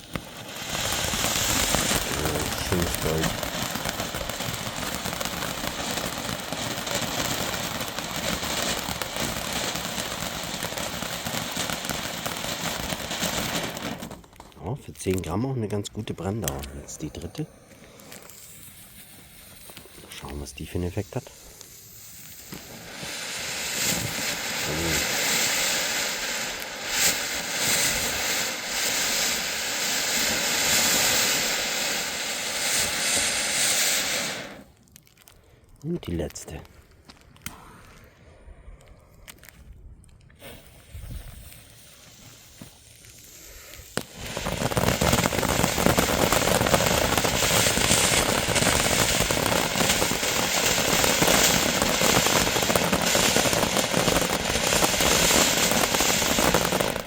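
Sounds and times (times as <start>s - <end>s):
fountain firework hissing: 0.0s - 15.2s, 15.9s - 34.7s, 40.4s - 57.0s.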